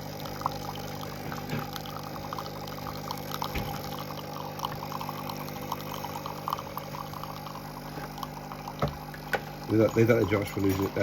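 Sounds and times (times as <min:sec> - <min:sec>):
coffee machine pump humming: 0:00.0 - 0:11.0
coffee pouring into cup: 0:00.0 - 0:11.0.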